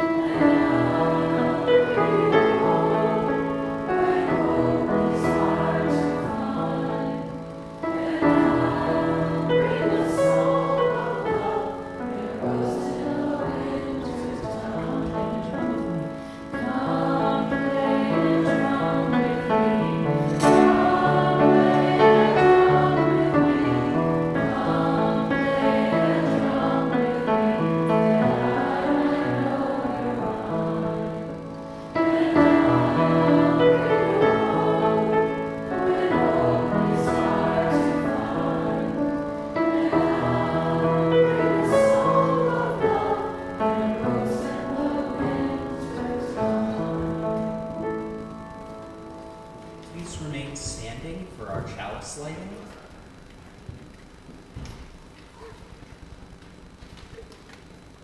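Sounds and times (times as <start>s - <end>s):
choir singing: 0.0s - 49.0s
low held accompanying notes: 0.0s - 53.1s.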